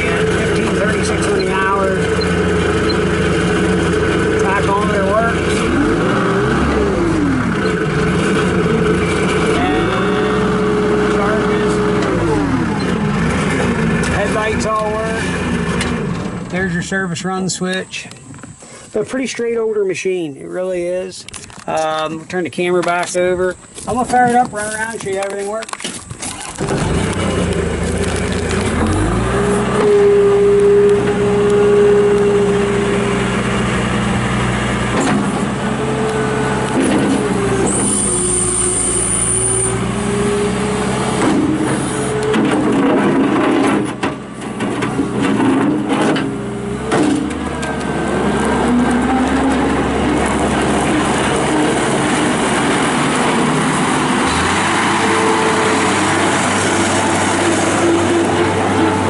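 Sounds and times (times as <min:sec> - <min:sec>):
diesel loader engine running: 0:00.0 - 0:59.0.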